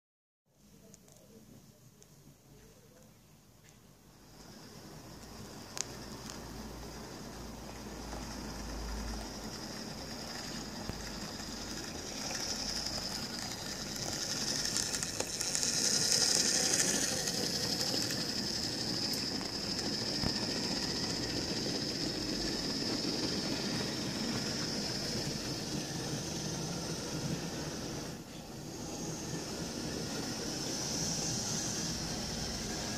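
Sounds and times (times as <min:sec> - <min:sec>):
model train wheels clattering: 0:04.3 - 0:32.9
electric motor high whine: 0:04.4 - 0:32.9.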